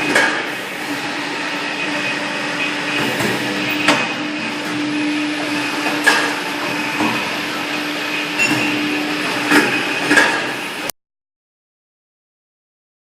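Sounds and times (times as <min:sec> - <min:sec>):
machine humming: 0:00.0 - 0:10.9.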